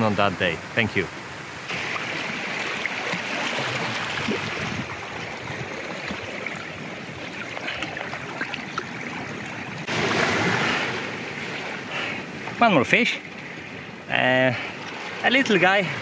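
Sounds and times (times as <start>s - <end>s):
seawater sloshing: 1.6s - 16.0s.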